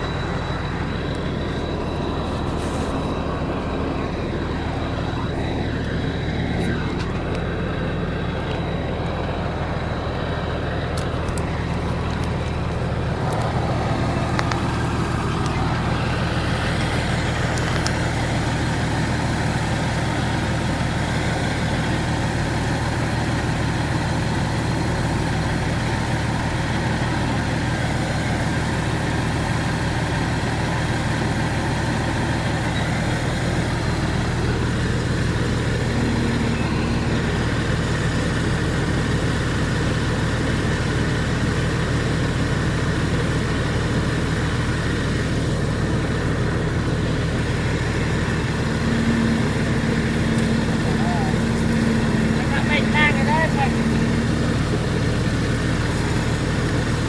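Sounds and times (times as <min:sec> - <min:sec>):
harvester engine droning: 0:00.0 - 0:57.0.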